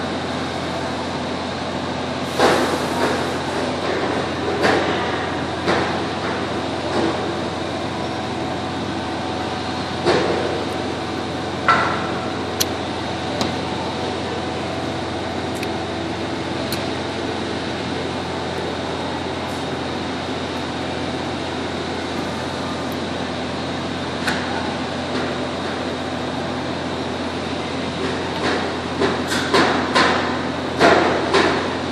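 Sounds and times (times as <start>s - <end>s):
steady background hum: 0.0s - 31.9s.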